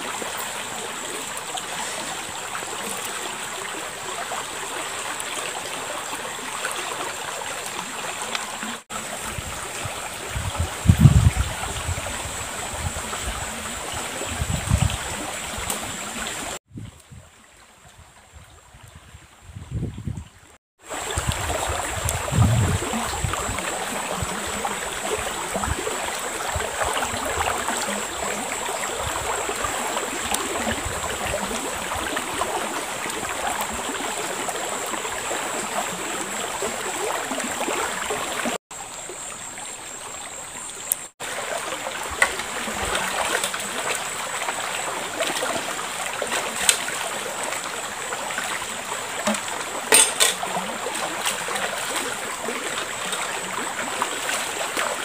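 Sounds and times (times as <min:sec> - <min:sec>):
river flowing: 0:00.0 - 0:16.6, 0:20.8 - 0:55.0
water splashes: 0:00.0 - 0:18.0, 0:20.8 - 0:55.0.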